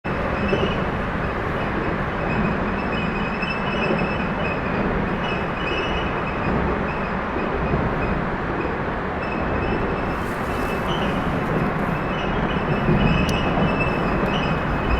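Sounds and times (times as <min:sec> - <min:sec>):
heavy traffic rumble on bridge: 0:00.0 - 0:14.9.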